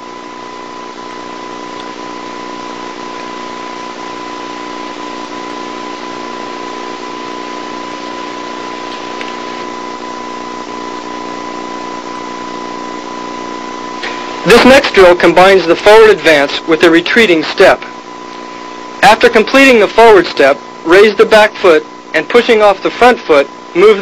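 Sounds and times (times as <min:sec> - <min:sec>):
high whine: 0:00.0 - 0:24.0
tape hiss: 0:00.0 - 0:24.0.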